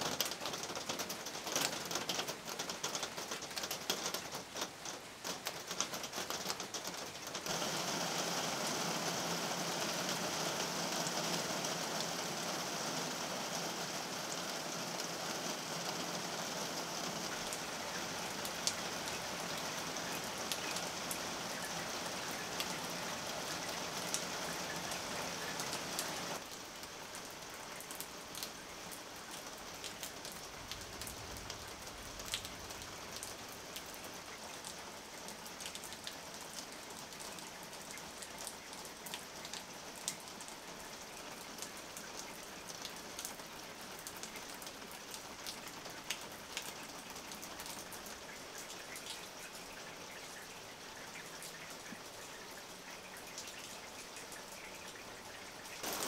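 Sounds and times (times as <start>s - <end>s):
rain falling: 0.0s - 56.0s
raindrops ticking: 0.0s - 56.0s.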